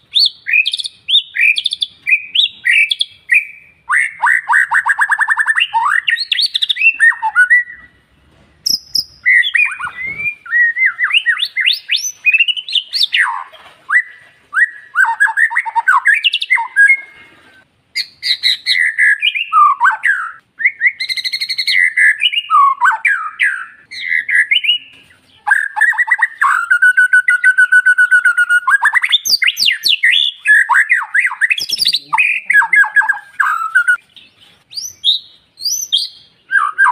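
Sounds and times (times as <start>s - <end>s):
songbird whistling and trilling: 0.0s - 8.0s, 8.6s - 36.9s.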